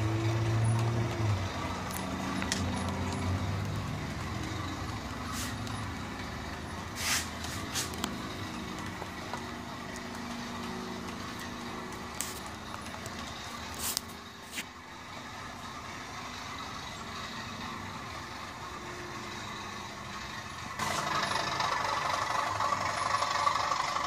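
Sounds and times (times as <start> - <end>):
model train running hum: 0.0 - 24.0.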